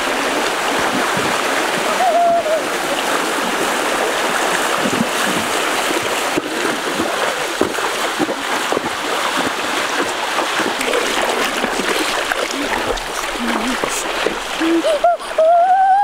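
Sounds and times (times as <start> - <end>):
splashes from wading: 0.0 - 15.5
shallow stream rushing: 0.0 - 16.0.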